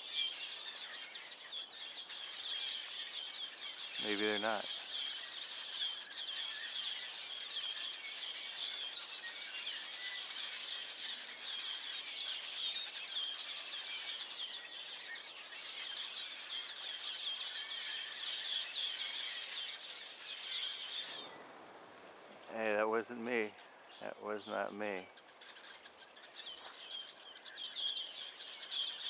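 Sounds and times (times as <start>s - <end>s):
flock of birds chattering: 0.0s - 29.0s.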